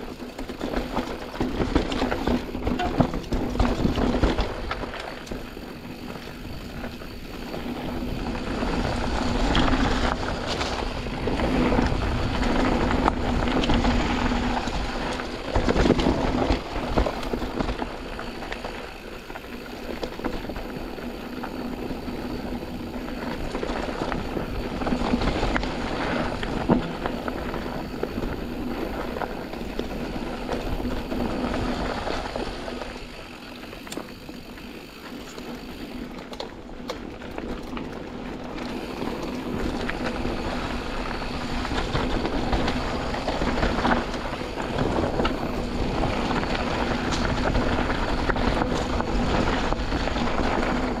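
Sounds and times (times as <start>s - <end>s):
bike rattling and knocking: 0.0s - 51.0s
tyres on dirt and stones: 0.0s - 51.0s.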